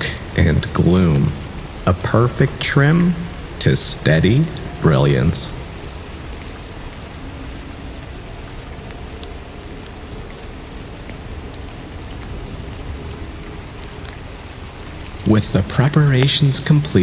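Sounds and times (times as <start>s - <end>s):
raindrops ticking: 0.0s - 17.0s
steady rain hissing: 0.0s - 17.0s.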